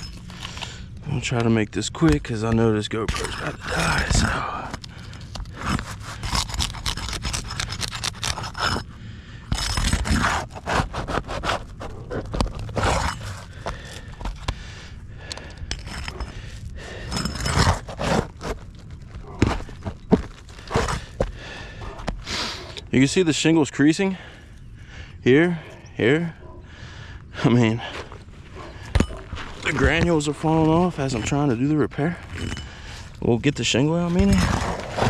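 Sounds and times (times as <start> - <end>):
shingles scraping and crackling: 0.0 - 14.8, 15.6 - 22.3, 27.8 - 35.0.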